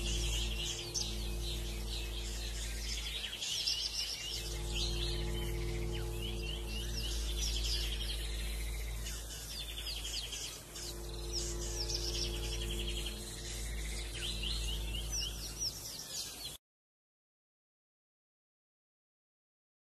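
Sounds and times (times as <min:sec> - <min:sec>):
birds chirping and trilling: 0:00.0 - 0:16.6
low steady hum: 0:00.0 - 0:16.6.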